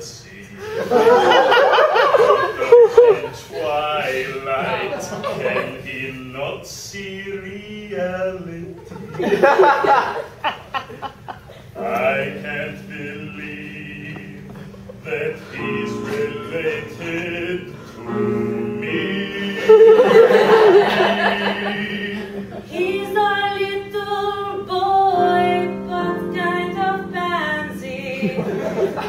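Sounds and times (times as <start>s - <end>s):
voices singing: 0.0s - 10.4s, 11.5s - 29.0s
musical backing: 0.0s - 29.0s.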